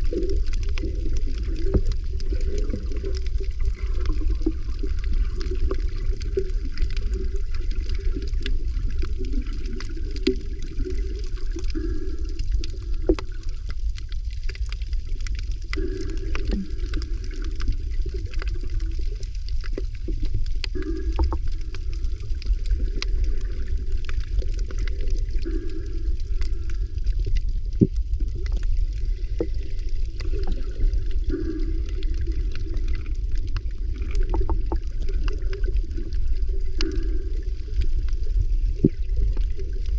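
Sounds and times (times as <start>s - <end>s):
sea water rumbling and washing: 0.0s - 39.9s
sharp clicks and crackles: 0.0s - 39.9s.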